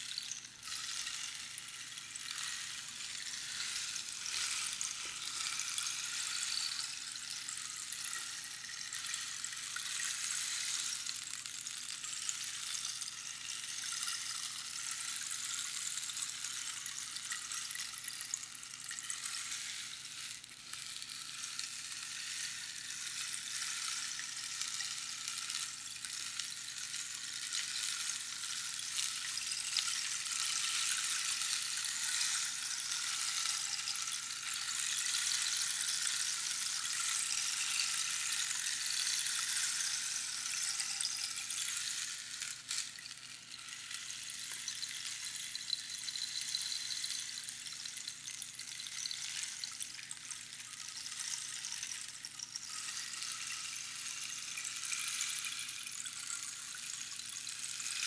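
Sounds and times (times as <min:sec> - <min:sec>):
rainstick pattering: 0:00.0 - 0:58.0.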